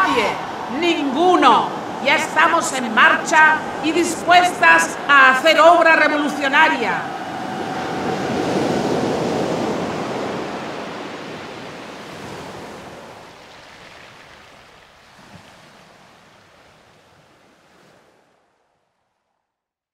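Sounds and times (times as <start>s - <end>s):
ocean surf washing: 0.0s - 18.4s.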